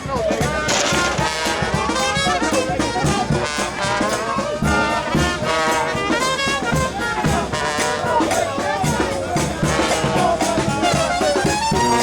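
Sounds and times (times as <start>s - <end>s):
brass band playing: 0.1s - 12.0s.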